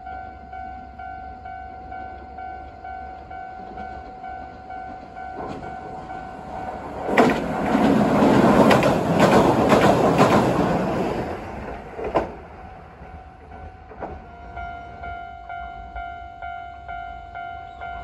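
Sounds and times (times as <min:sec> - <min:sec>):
tram wheels clacking: 0:00.2 - 0:18.0.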